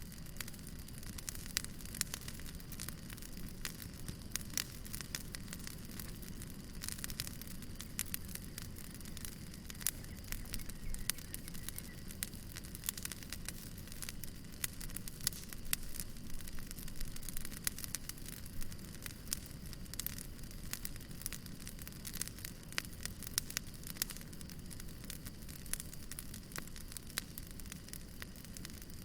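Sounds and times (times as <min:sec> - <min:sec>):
low rumble of flame: 0:00.0 - 0:29.0
wood fire crackling and popping: 0:00.0 - 0:29.0.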